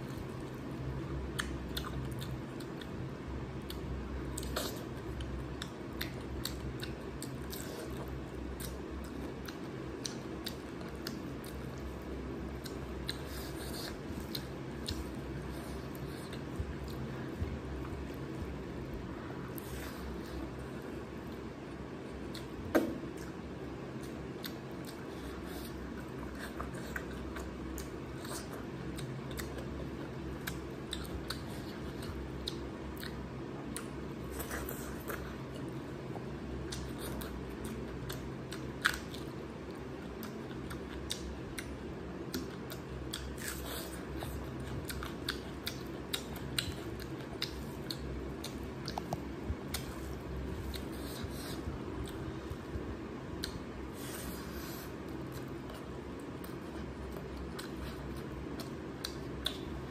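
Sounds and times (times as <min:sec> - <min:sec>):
chewing and eating: 0:00.0 - 0:59.9
steady low hum: 0:00.0 - 0:59.9.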